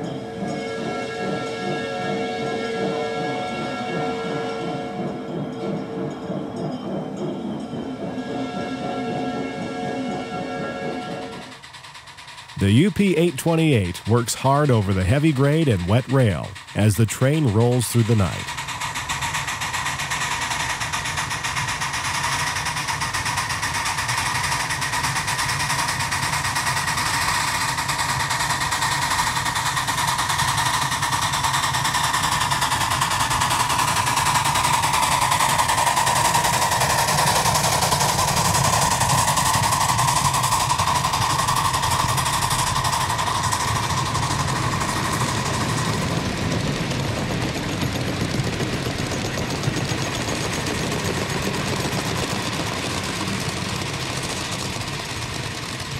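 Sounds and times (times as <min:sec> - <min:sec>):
riding cars rolling by: 0:00.0 - 0:55.9
steady high whine: 0:00.0 - 0:55.9
steam locomotive exhaust chuffing: 0:00.0 - 0:55.9.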